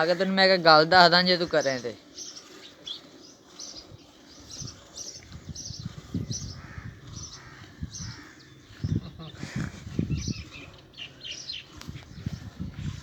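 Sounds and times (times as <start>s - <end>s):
bird chirping: 1.4s - 12.9s.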